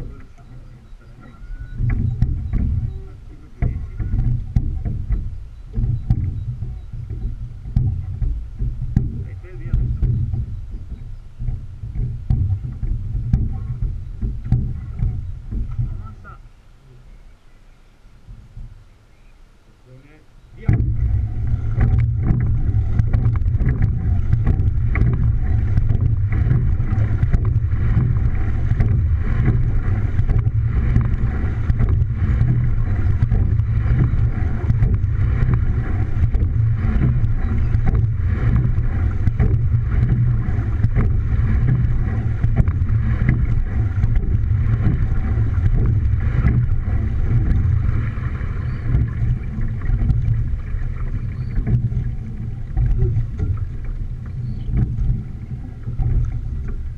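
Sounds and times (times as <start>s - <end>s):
wind buffeting microphone: 0.0s - 19.5s, 20.4s - 56.9s
water rushing along boat hull: 0.0s - 56.9s
small knocks: 1.2s - 16.2s, 20.6s - 56.9s.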